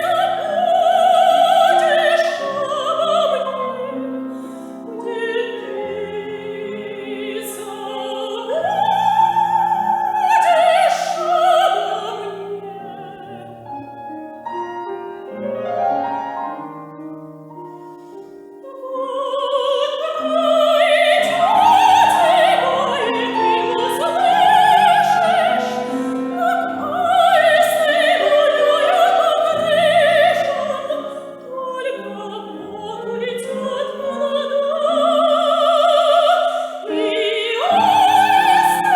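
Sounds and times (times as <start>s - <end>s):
soprano singing operatically: 0.0s - 14.4s, 18.4s - 38.9s
piano accompaniment: 0.0s - 38.9s.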